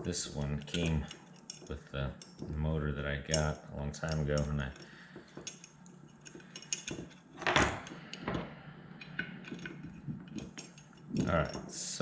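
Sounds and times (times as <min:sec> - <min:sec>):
small metal parts clinking: 0:00.6 - 0:02.5, 0:03.3 - 0:08.4, 0:09.0 - 0:12.0.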